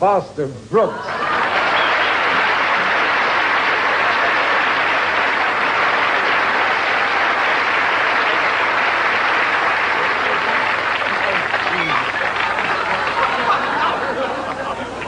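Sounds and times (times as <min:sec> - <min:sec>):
audience applauding: 0:01.1 - 0:15.0.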